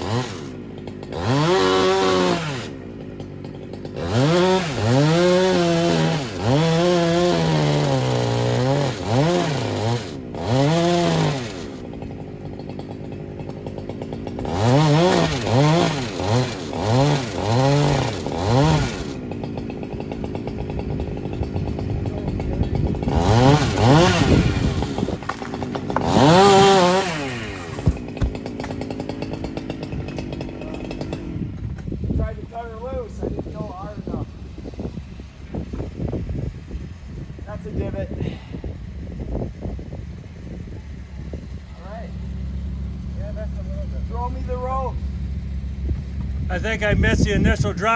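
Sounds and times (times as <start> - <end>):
chainsaw revving and idling: 0.0 - 47.9.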